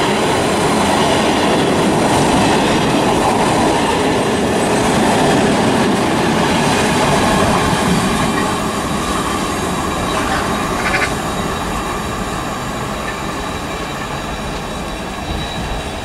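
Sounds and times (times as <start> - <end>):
freight train wheels rolling: 0.0 - 16.0.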